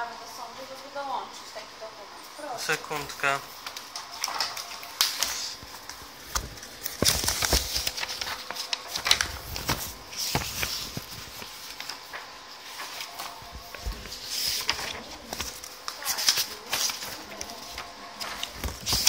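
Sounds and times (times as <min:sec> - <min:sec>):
paper pages turning and rustling: 0:03.5 - 0:19.0.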